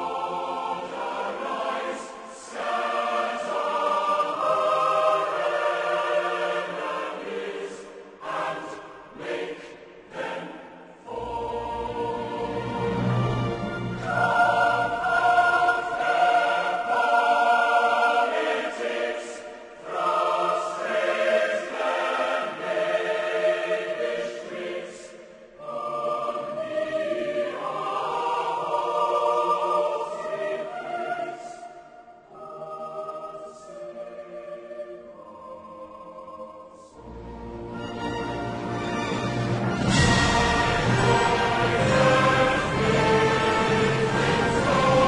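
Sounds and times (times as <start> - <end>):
choir singing long held notes: 0.0 - 45.0.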